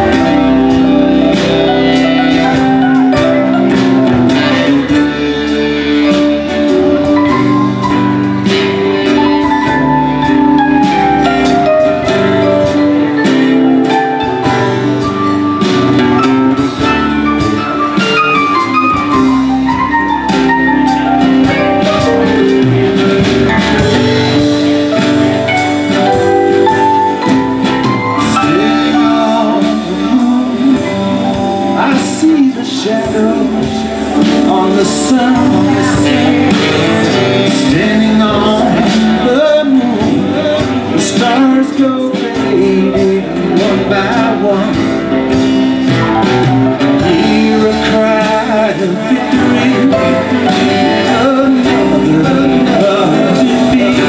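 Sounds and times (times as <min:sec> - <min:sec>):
live band playing instrumental: 0:00.0 - 0:54.0.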